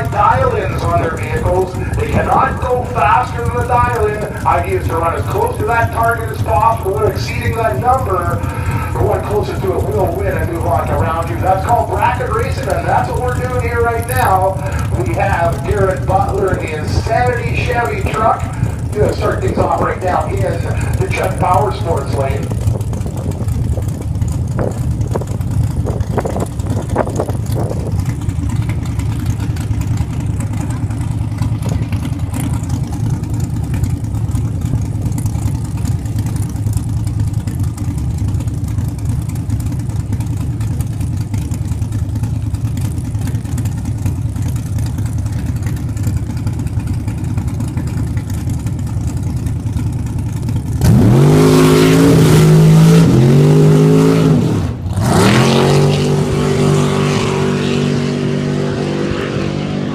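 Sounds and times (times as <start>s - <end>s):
engine accelerating at full throttle: 0.0s - 59.9s
racing engines idling: 0.0s - 59.9s.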